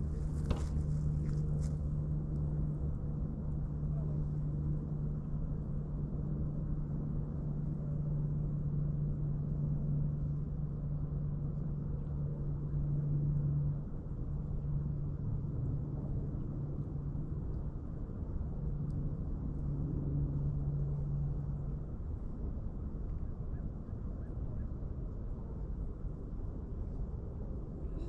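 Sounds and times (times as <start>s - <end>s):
low motor hum: 0.0s - 28.0s
rumbling background: 0.0s - 28.0s.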